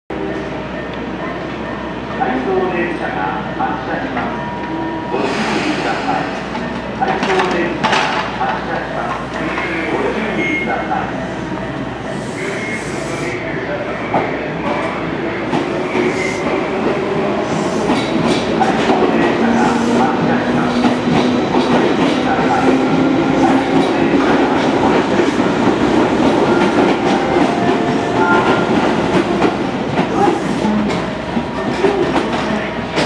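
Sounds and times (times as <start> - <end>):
electric train running rumble: 0.1 - 33.0.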